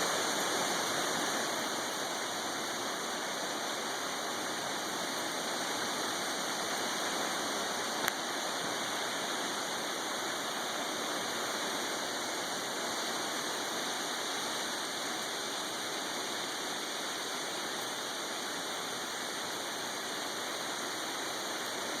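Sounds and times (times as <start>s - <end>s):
steady water hiss: 0.0s - 22.0s.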